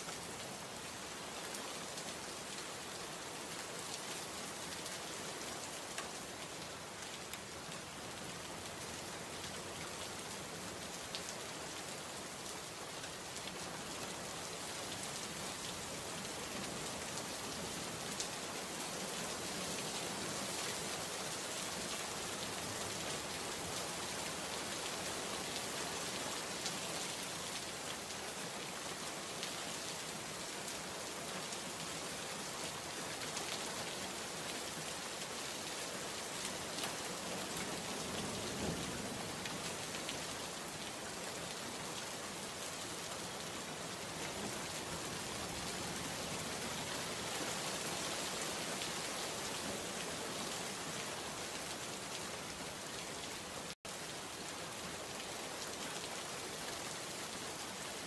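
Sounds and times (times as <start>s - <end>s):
steady rain patter: 0.0s - 58.0s.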